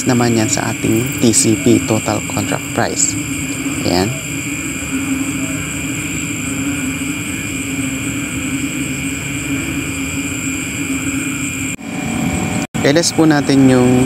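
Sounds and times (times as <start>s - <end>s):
mechanical hum: 0.0s - 14.0s
thin high whine: 0.0s - 14.0s.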